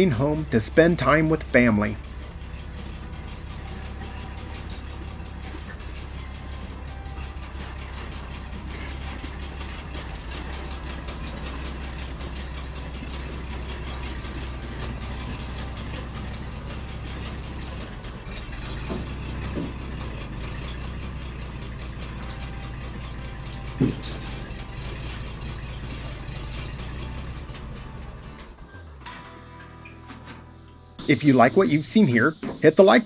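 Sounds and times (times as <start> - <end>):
engine idling: 0.0 - 31.6.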